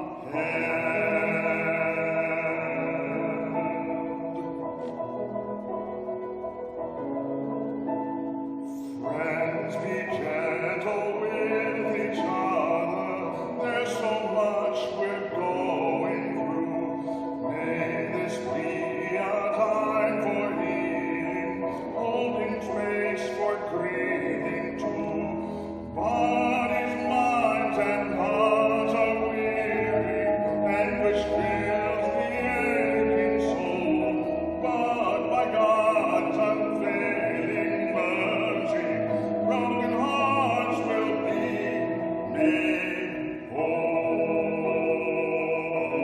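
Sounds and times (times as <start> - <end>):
solo voice singing: 0.0 - 5.0, 8.7 - 46.0.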